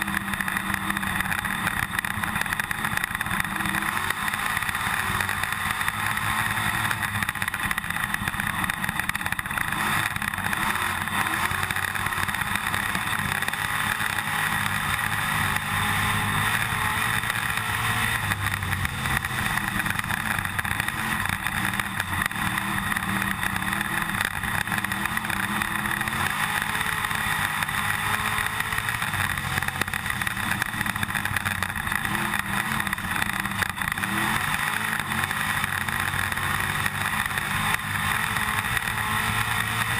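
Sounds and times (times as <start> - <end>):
constant rattle: 0.0 - 39.9
race car engine running: 0.0 - 39.9.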